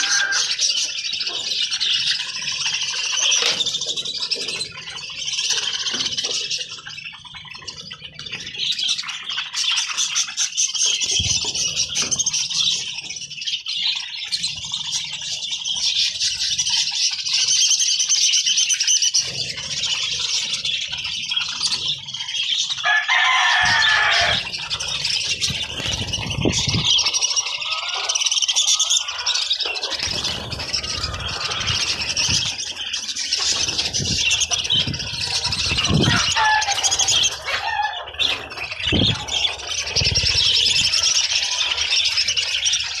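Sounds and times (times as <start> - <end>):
budgerigars chattering: 0.0 - 43.0.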